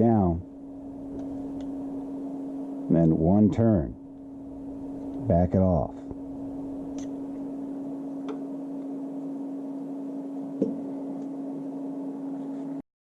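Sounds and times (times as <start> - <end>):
steady one-pitch hum: 0.0 - 12.8.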